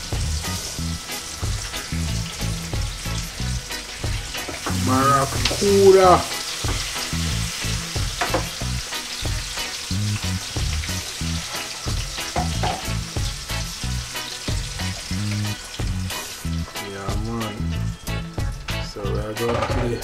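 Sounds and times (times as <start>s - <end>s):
bass beat background music: 0.0s - 20.0s
fish sizzling in oil: 0.0s - 20.0s.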